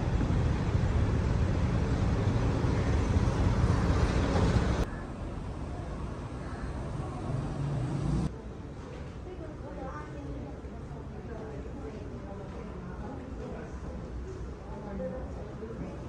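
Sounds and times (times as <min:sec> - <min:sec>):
street noise: 0:00.0 - 0:16.0
traffic rumble: 0:00.0 - 0:16.0.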